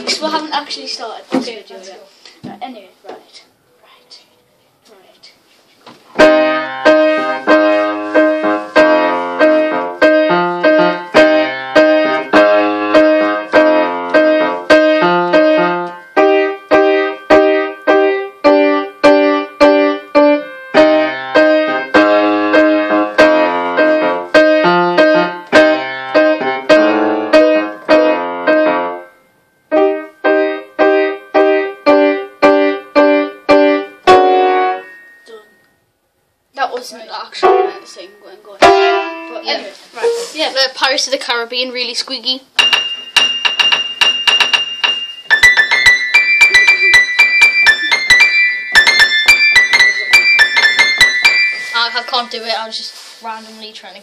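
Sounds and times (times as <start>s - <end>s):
piano melody: 6.2s - 35.7s, 37.1s - 40.6s, 42.6s - 53.5s.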